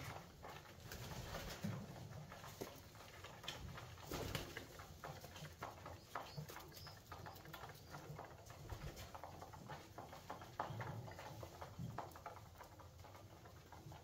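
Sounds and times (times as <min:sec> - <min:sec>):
birds pecking on hard floor: 0:00.0 - 0:14.0.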